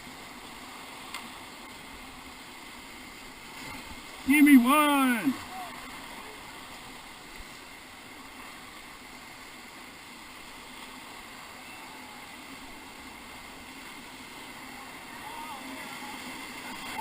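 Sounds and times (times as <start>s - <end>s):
whitewater rapids rushing: 0.0s - 17.0s.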